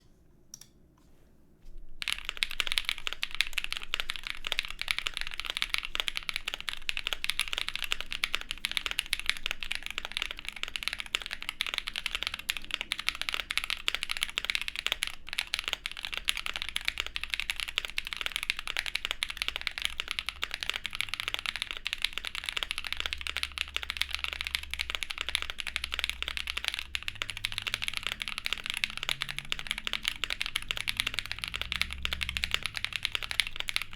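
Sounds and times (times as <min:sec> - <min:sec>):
fast mechanical keyboard typing: 0:02.0 - 0:33.9.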